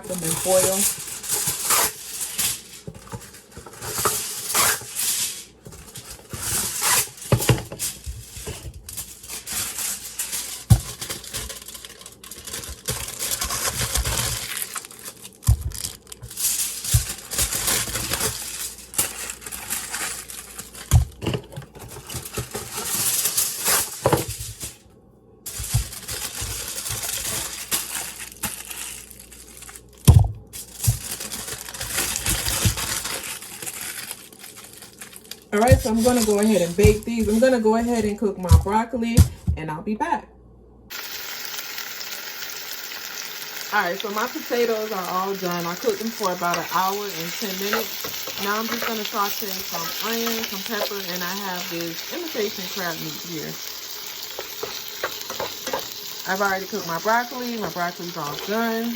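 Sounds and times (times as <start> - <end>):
aluminium foil crinkling: 0.0 - 24.8, 25.5 - 38.6, 40.9 - 58.9.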